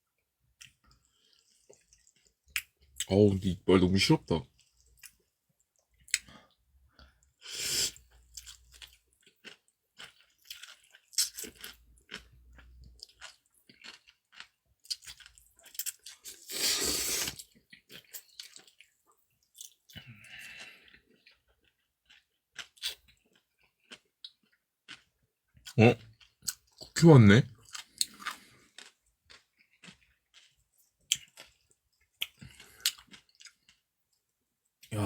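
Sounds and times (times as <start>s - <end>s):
person chewing crunchy food: 0.6s - 3.1s, 4.5s - 27.0s, 27.6s - 34.3s.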